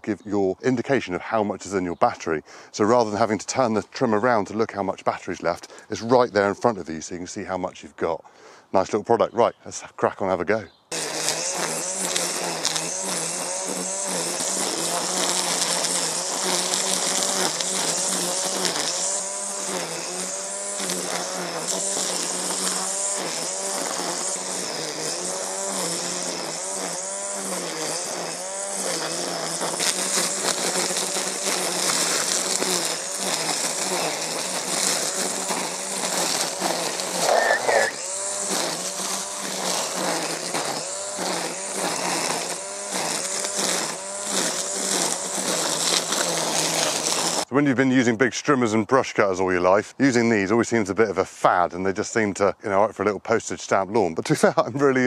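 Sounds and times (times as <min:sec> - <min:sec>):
line trimmer cutting grass: 0:00.0 - 0:08.9, 0:10.1 - 0:47.6, 0:54.0 - 0:55.0.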